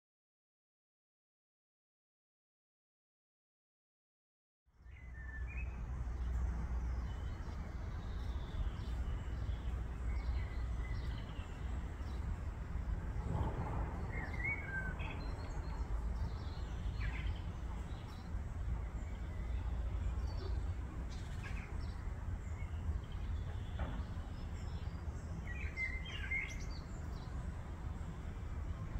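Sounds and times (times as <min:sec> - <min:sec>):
small birds chirping: 0:04.8 - 0:28.9
steady low rumble: 0:05.6 - 0:28.9.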